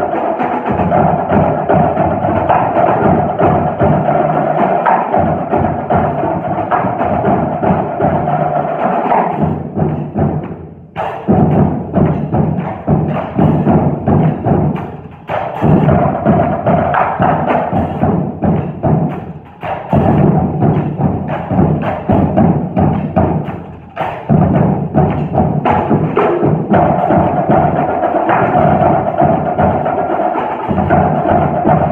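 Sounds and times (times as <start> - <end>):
marching drums and drum kit: 0.0 - 31.9.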